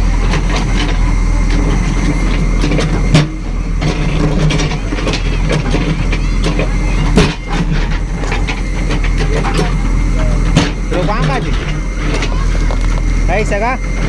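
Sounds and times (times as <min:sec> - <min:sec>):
construction machine engine running: 0:00.0 - 0:14.0
small metallic knocks clattering: 0:00.2 - 0:14.0.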